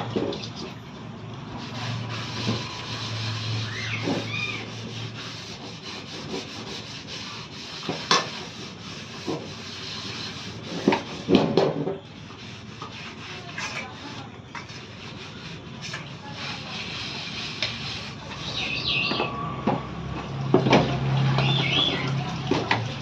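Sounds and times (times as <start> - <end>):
pot scrubbed with scrubber: 1.5 - 19.2, 20.6 - 23.0.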